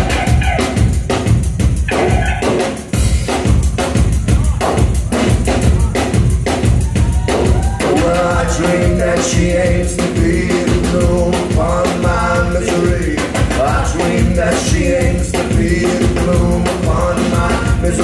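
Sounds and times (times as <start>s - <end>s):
drum kit beat: 0.0s - 18.0s
rock band playing: 0.0s - 18.0s.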